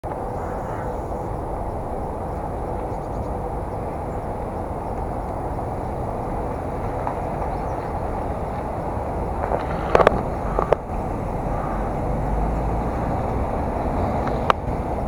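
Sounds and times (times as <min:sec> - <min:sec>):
bicycle tyres on road: 0:00.0 - 0:15.0
wind on microphone: 0:00.0 - 0:15.0.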